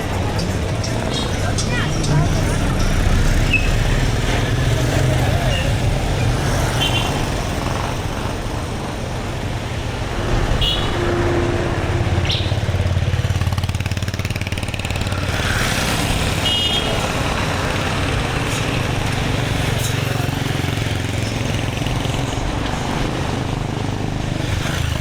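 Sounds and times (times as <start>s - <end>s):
vehicle engines rumbling: 0.0s - 25.0s.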